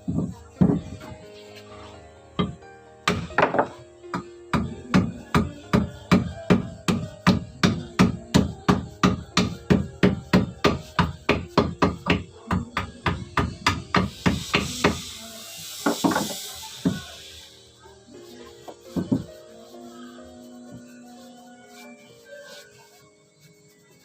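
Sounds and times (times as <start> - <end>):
hiss: 4.6 - 24.0.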